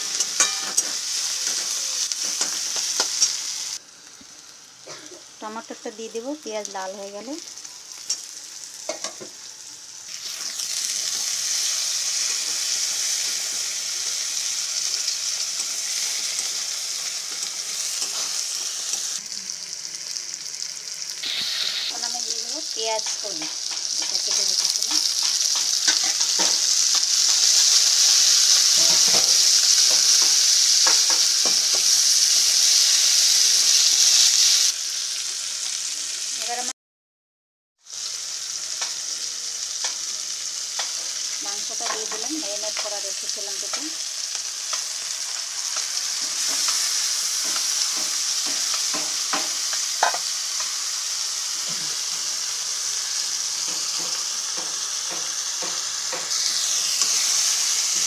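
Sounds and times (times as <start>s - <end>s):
vegetables sizzling in hot oil: 0.0s - 36.8s, 37.8s - 58.0s.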